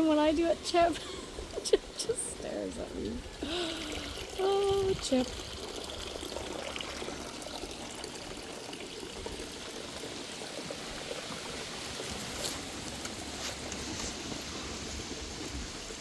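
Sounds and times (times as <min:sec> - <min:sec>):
running water trickling: 0:00.0 - 0:16.0.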